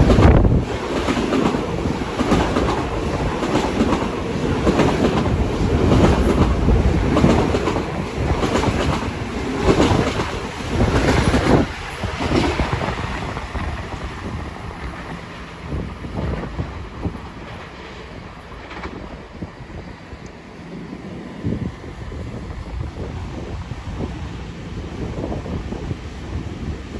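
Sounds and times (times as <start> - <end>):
train wheels clacking on rails: 0.0 - 24.2.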